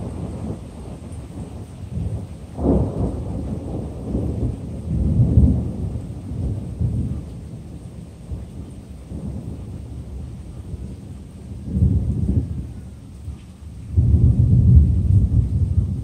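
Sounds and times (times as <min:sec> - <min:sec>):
thunder crack and rumble: 0:00.0 - 0:16.0.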